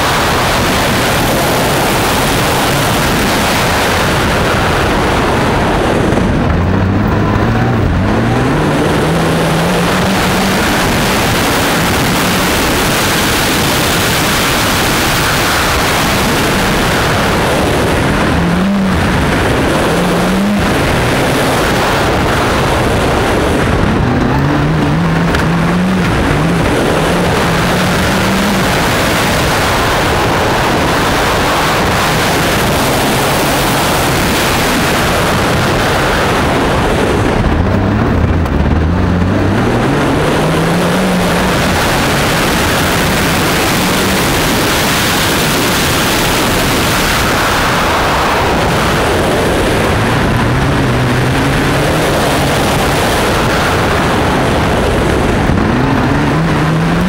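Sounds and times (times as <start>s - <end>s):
gravel noise: 0.0s - 57.0s
rally car engine accelerating: 0.0s - 57.0s
wind rushing: 0.0s - 57.0s.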